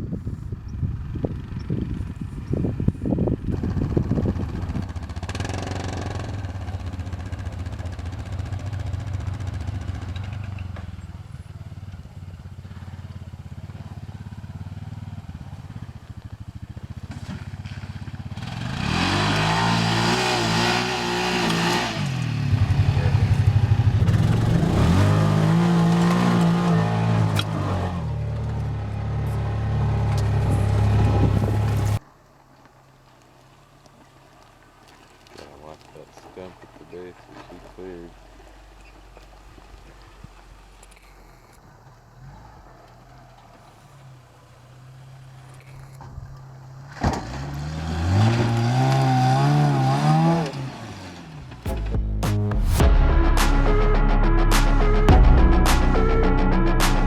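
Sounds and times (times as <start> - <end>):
vehicle engine revving: 0.2 - 32.0, 42.1 - 57.0.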